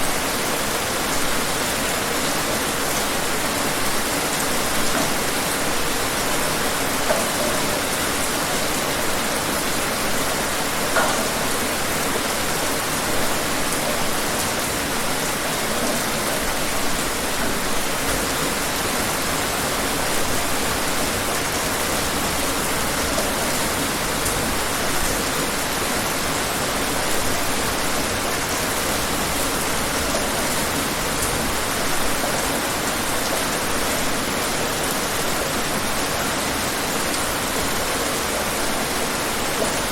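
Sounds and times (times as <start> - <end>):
raindrops ticking on a surface: 0.0 - 39.9
steady rainfall: 0.0 - 39.9.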